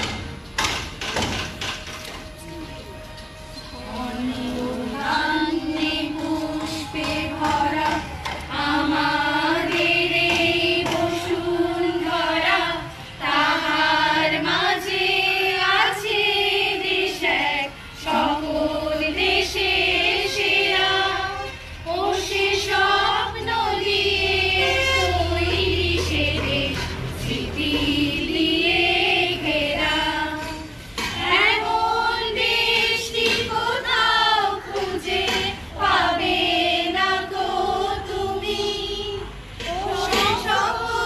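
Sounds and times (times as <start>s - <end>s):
group singing in unison: 3.7s - 41.0s
woman singing into microphone: 3.8s - 41.0s.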